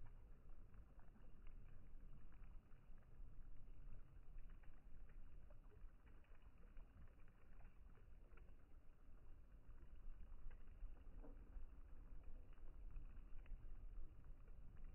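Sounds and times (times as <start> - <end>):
water ticking at shore: 0.0 - 14.9.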